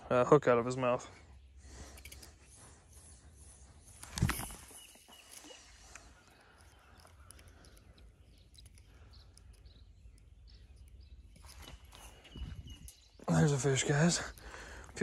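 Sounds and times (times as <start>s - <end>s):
faint bird chirps: 0.9s - 15.0s.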